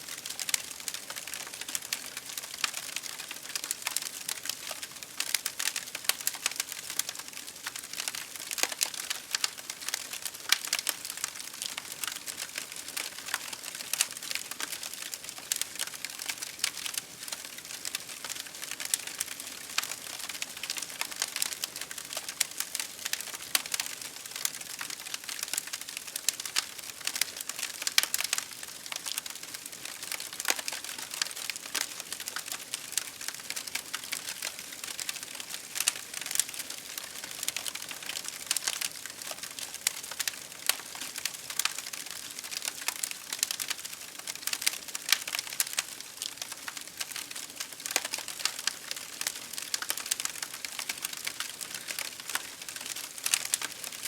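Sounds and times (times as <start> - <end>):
campfire crackling and popping: 0.1 - 54.0.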